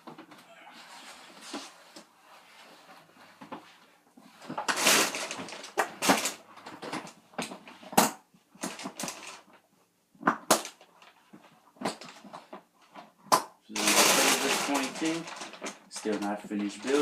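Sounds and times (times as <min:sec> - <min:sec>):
rustling: 0:00.0 - 0:09.8, 0:10.6 - 0:17.0.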